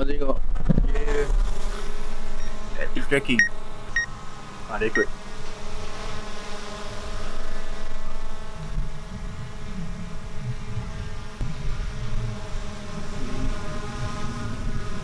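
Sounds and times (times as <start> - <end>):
drone propellers buzzing: 0.9 - 15.0.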